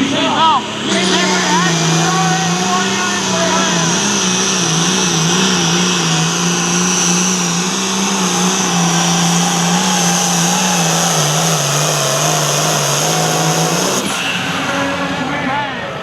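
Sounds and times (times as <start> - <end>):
diesel engine revving hard: 0.0 - 16.0
high turbo whine: 0.0 - 16.0.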